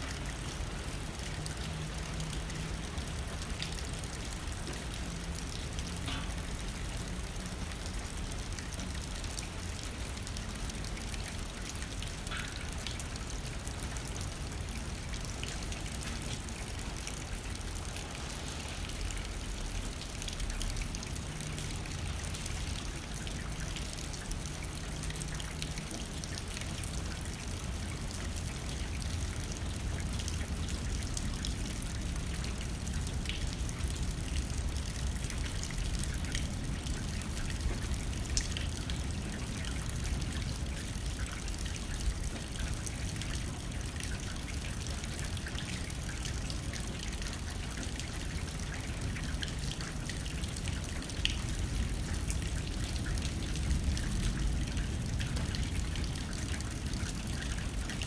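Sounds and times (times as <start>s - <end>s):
rain hitting a window: 0.0s - 58.0s.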